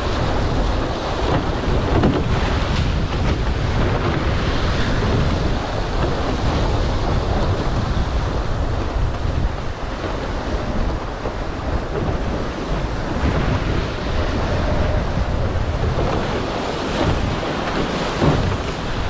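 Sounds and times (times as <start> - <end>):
water rushing along hulls: 0.0 - 19.0
wind buffeting microphone: 0.0 - 19.0.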